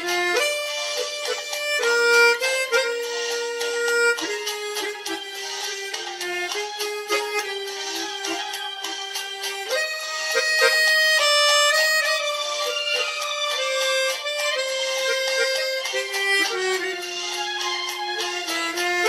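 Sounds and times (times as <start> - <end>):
harmonica playing slow melody: 0.0 - 19.0.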